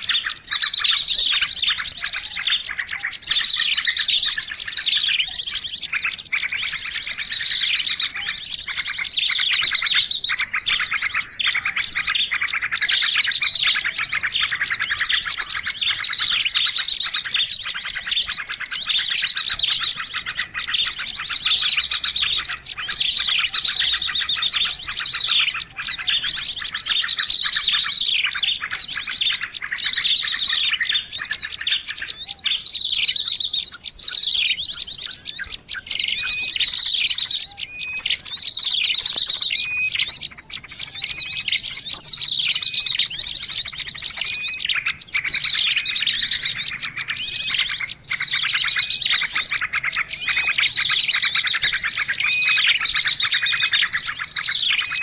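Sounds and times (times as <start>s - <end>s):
small songbirds chirping and trilling: 0.0s - 55.0s.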